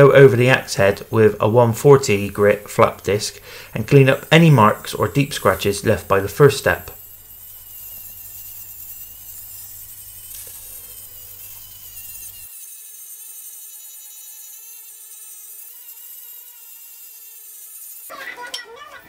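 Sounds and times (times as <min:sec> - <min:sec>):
angle grinder grinding steel: 0:00.0 - 0:19.0.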